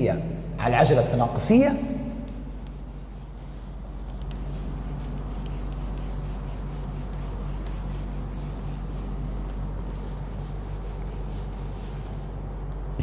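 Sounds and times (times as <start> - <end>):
low electrical hum: 0.0 - 13.0
eraser wiping a whiteboard: 0.4 - 12.6.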